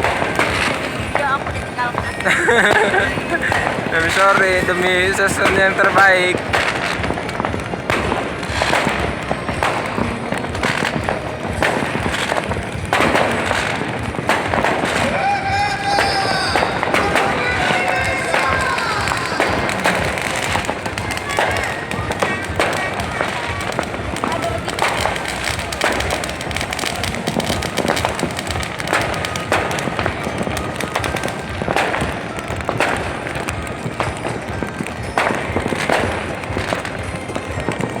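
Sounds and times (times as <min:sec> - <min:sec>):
crowd noise: 0:00.0 - 0:38.0
fireworks bangs and crackles: 0:00.0 - 0:38.0.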